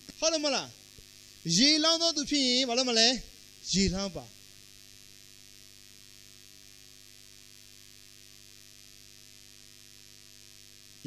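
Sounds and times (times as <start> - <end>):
faint electrical mains hum: 0.0 - 11.0
microphone hiss: 0.0 - 11.0.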